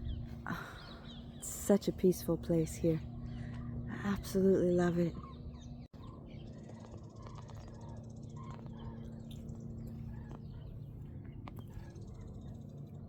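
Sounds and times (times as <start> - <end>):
low hum: 0.0 - 13.0
low outdoor rumble: 0.0 - 13.0
marsh water birds calling: 0.0 - 13.0.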